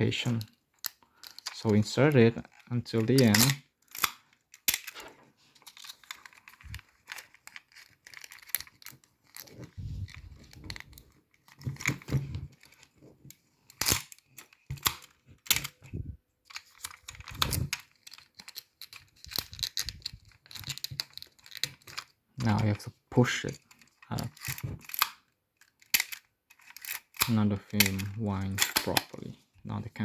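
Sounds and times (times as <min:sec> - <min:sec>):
film rustling in camera: 0:00.4 - 0:29.2.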